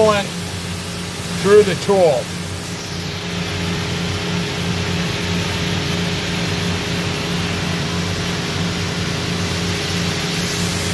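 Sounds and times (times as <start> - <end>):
coolant spray hissing: 0.0 - 10.9
steady machine hum: 0.0 - 10.9.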